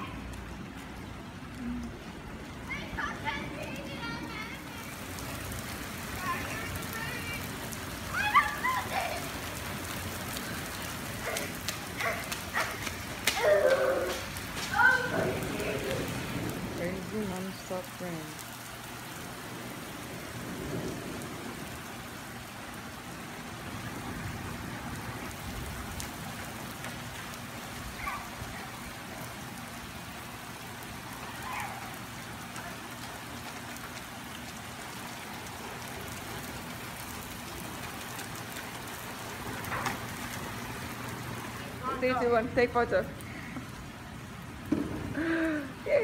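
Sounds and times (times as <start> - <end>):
rain falling on wet street: 0.0 - 46.0.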